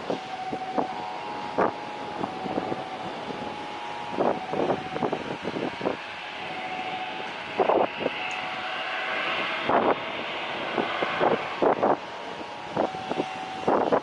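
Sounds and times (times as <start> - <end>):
jet engines rushing: 0.0 - 14.0
wind buffeting microphone: 0.0 - 14.0.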